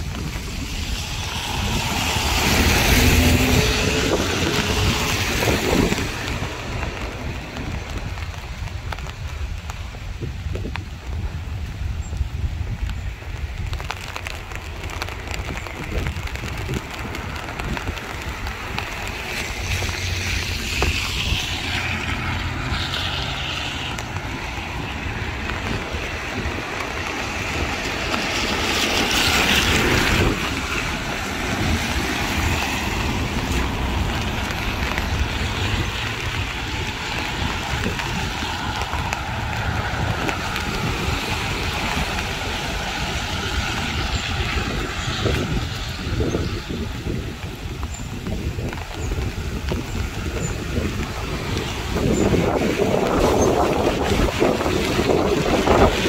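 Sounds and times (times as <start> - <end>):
heavy rain hissing: 0.0 - 56.0.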